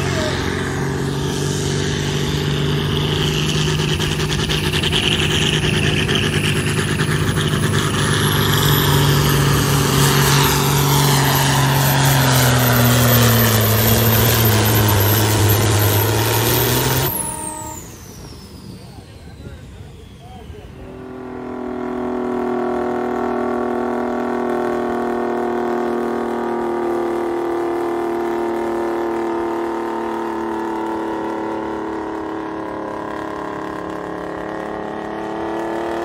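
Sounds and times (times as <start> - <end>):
diesel truck engine under load: 0.0 - 36.0.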